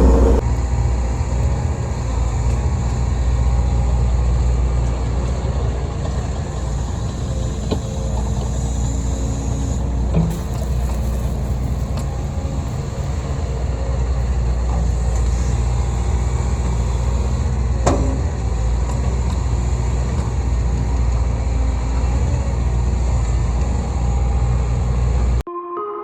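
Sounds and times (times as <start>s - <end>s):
excavator diesel engine running: 0.0s - 25.4s.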